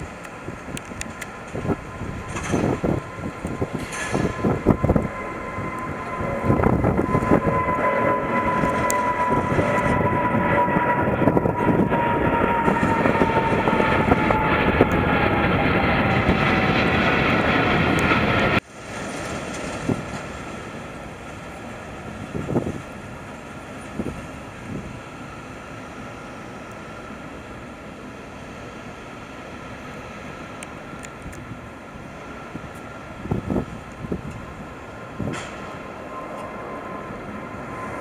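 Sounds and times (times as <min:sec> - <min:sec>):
distant jet rumble: 0:00.0 - 0:38.0
jet engines rumbling and whining: 0:00.0 - 0:38.0.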